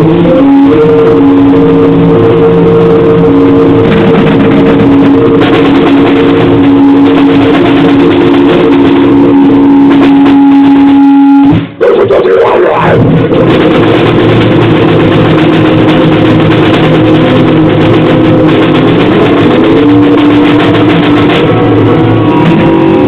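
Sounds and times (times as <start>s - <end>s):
distorted noise music: 0.0s - 23.0s
droning held tones: 0.0s - 23.0s.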